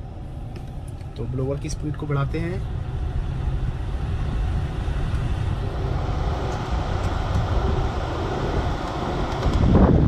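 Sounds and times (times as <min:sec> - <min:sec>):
blower fan rushing air: 0:00.0 - 0:10.0
car engine idling: 0:00.0 - 0:10.0.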